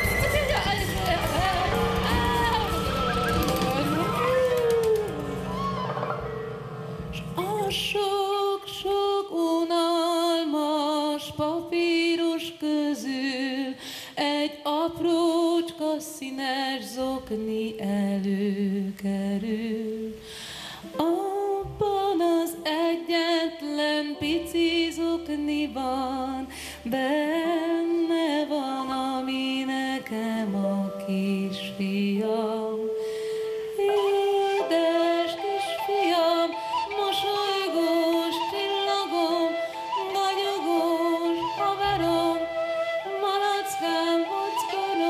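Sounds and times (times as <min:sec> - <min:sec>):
woman singing into a microphone: 0:00.0 - 0:05.3, 0:07.2 - 0:45.0.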